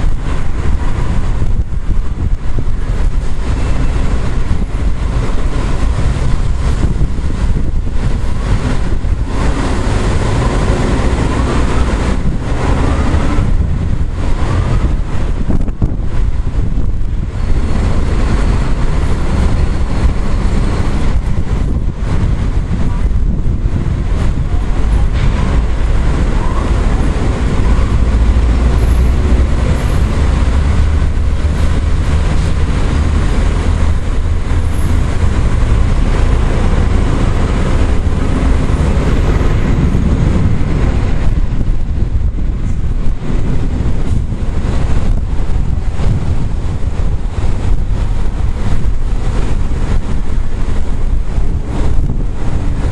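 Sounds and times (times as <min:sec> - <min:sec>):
storm wind on microphone: 0:00.0 - 0:52.9.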